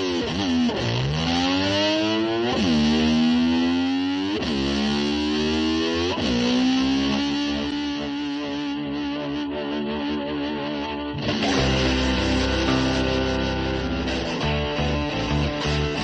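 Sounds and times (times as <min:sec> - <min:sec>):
distorted electric slide guitar: 0:00.0 - 0:16.0.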